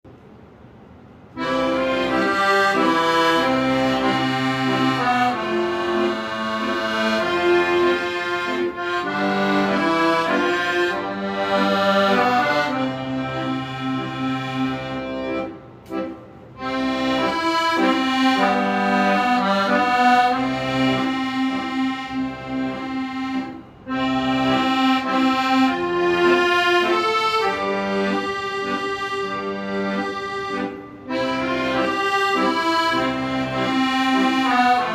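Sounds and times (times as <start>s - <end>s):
accordion playing a melody: 1.3s - 34.9s.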